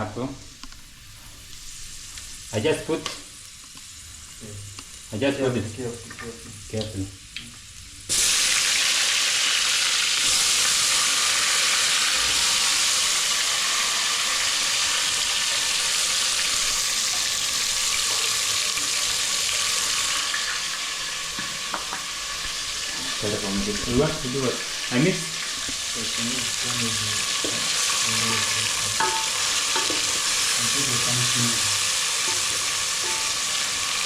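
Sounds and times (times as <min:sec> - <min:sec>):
tomato sizzling in hot oil: 0:00.0 - 0:34.0.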